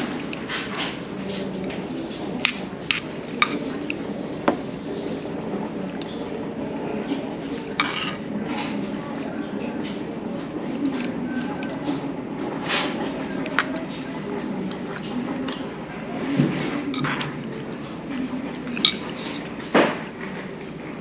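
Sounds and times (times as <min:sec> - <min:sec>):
low background murmur: 0:00.0 - 0:21.0.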